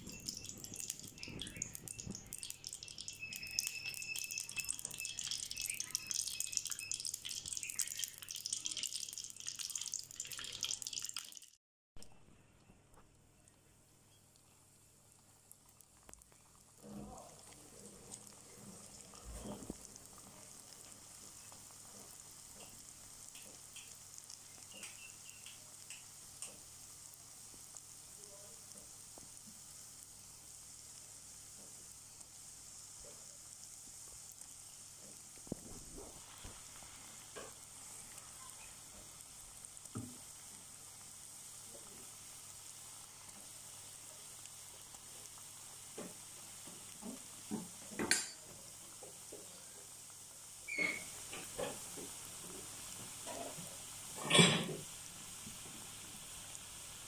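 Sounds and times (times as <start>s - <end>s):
dough deep-frying in hot oil: 0.0s - 57.0s.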